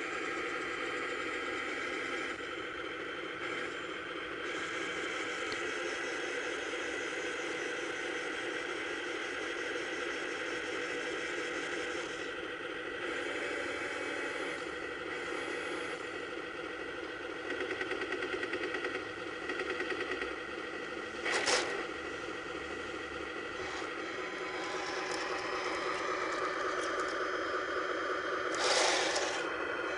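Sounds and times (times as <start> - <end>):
simulated tank engine from small speaker: 0.0 - 29.9.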